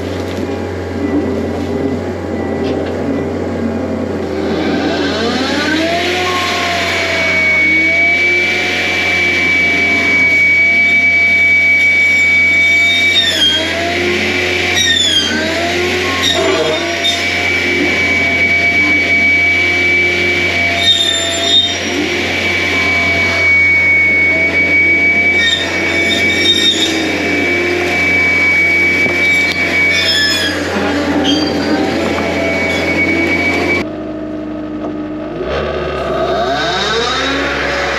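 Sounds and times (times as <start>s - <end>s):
hydraulics whining: 0.0s - 37.9s
track loader engine running: 0.0s - 37.9s.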